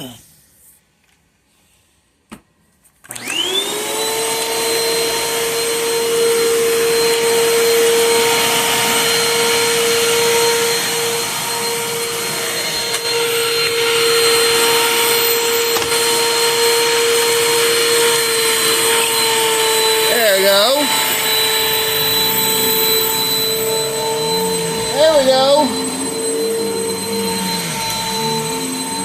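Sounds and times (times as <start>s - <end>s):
vacuum cleaner motor whining: 3.0s - 29.0s.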